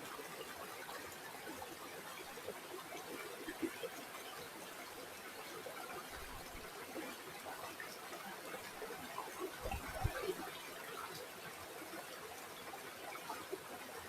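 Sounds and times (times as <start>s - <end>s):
shallow river water babbling: 0.0s - 14.0s.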